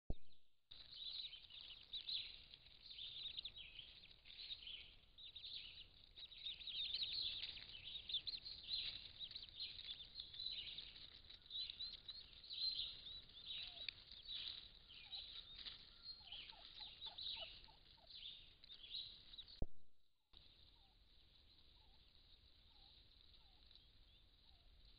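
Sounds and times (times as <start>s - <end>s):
turkey poults peeping: 0.8s - 19.6s, 20.4s - 24.9s.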